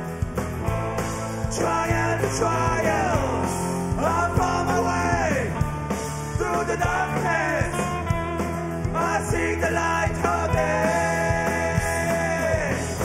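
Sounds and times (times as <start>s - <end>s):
bending sliding lead guitar line: 0.0s - 13.0s
drums steady beat: 0.0s - 13.0s
held bass notes: 0.0s - 13.0s.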